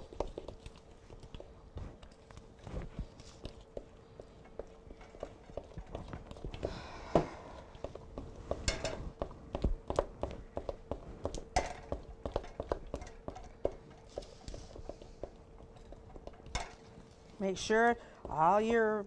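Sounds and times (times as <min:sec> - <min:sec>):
spoon stirring batter in bowl: 0:00.0 - 0:06.7, 0:07.6 - 0:18.7.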